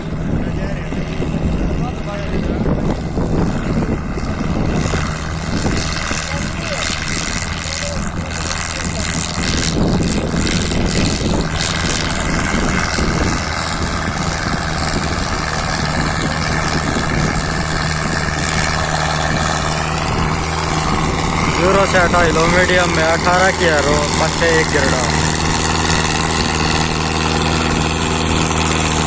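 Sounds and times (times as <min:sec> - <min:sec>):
tractor diesel engine droning: 0:00.0 - 0:29.0.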